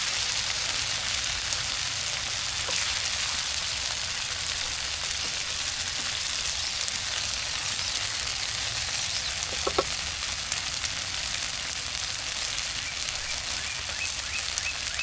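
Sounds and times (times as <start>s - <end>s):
food sizzling over a fire: 0.0s - 15.0s.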